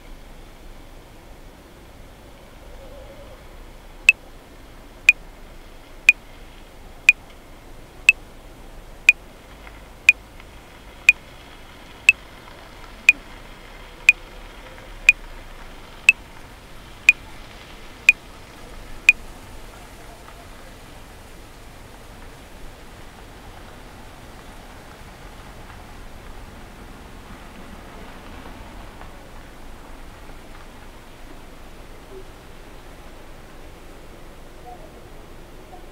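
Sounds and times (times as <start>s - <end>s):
faint hiss: 0.0s - 35.9s.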